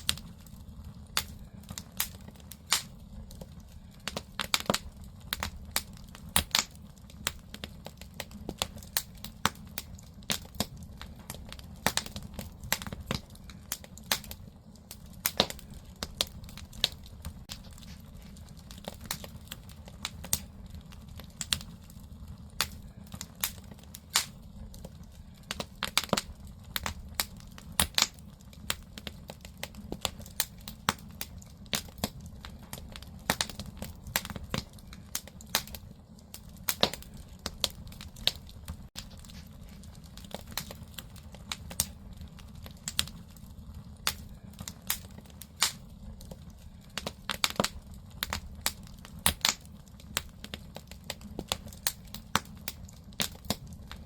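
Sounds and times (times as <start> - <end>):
firewood crackling and popping: 0.0 - 54.0
low fire rumble: 0.0 - 54.0.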